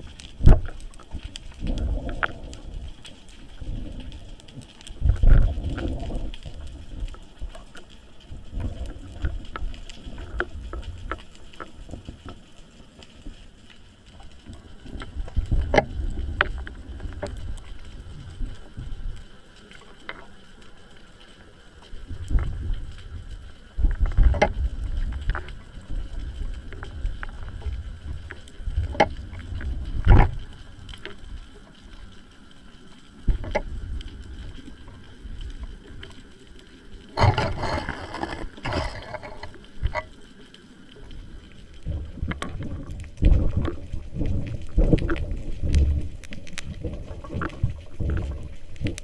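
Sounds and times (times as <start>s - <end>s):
low rumbling underwater noise: 0.0s - 49.0s.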